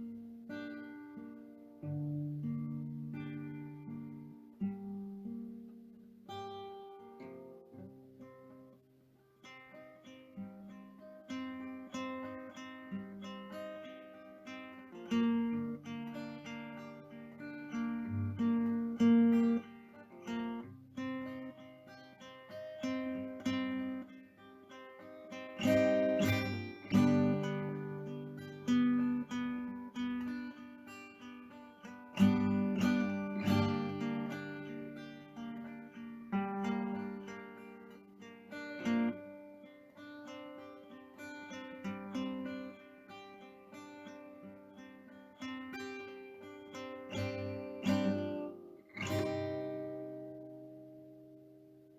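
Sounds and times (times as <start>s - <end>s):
acoustic guitar music: 0.0s - 51.9s.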